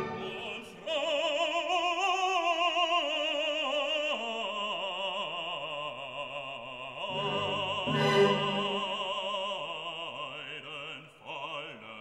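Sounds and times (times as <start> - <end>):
operatic voice singing: 0.0 - 12.0.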